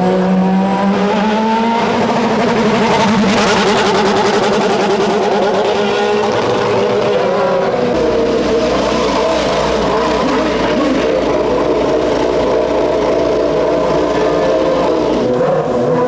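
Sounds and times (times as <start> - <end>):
racing car engines at high revs: 0.0 - 16.0.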